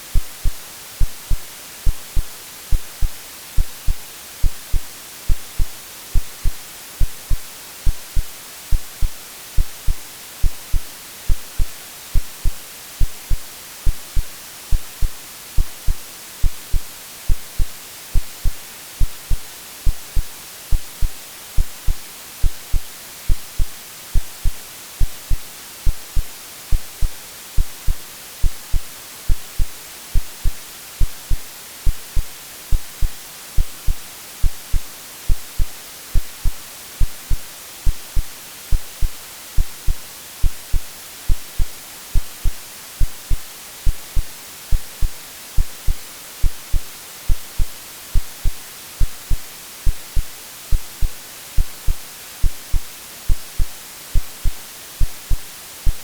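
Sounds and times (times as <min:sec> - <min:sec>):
white noise hiss: 0:00.0 - 0:56.0
synthetic heartbeat thumps: 0:00.1 - 0:56.0.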